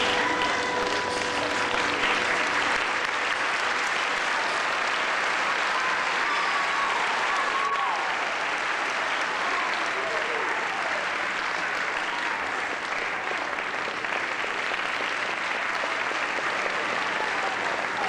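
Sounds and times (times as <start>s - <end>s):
audience applauding: 0.0s - 18.0s.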